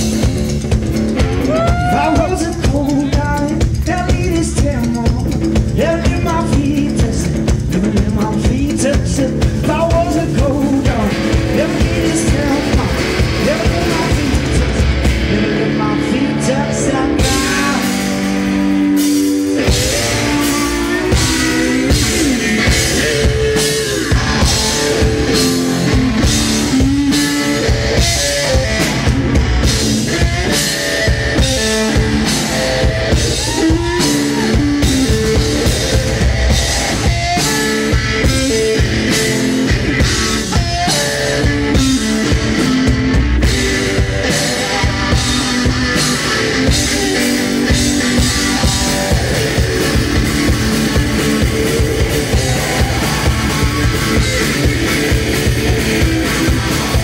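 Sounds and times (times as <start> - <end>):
drum kit pounding: 0.0 - 57.0
electric guitar riffing: 0.0 - 57.0.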